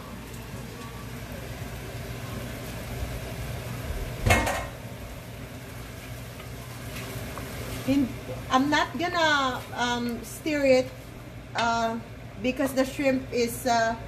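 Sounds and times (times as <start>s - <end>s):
shrimp sizzling in a pot: 0.0s - 14.0s.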